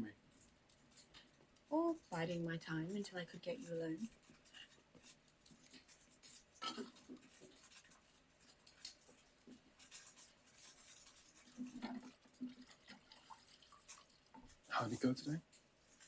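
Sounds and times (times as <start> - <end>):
faint rustling: 0.0 - 16.0.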